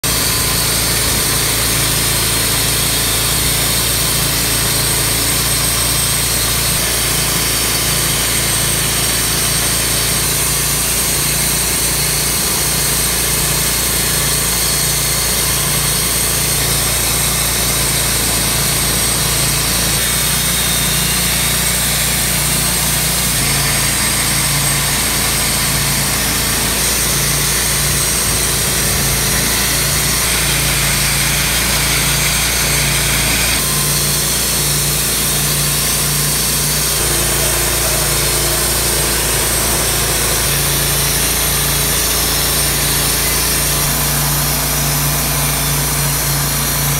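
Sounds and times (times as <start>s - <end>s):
band blade sawing through log: 0.0s - 46.9s
bandsaw mill engine running: 0.0s - 46.9s.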